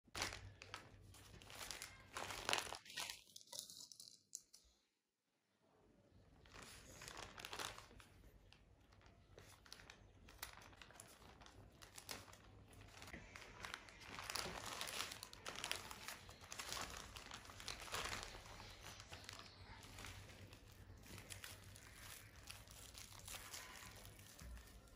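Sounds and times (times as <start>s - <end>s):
plastic mailer bag crinkling: 0.1s - 4.2s, 6.4s - 24.9s.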